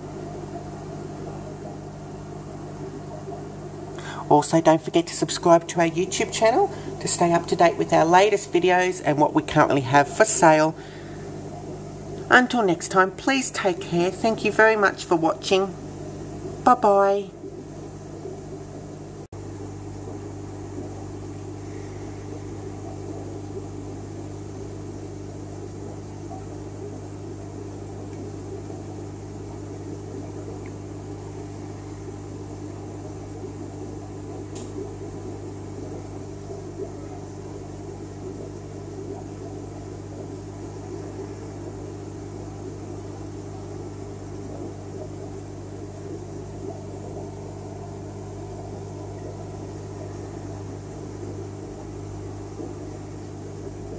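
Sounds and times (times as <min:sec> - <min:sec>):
mechanical equipment humming: 0:00.0 - 0:53.9.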